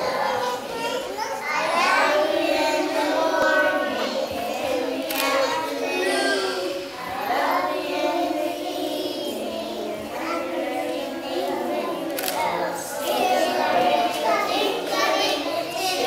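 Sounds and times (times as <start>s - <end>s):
young children singing: 0.0s - 16.0s.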